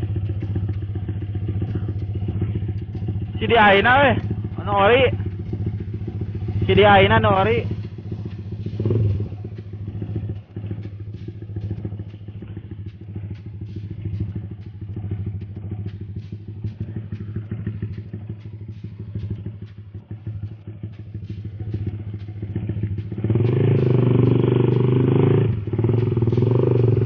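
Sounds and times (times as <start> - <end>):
small motorcycle engine running: 0.0 - 27.0.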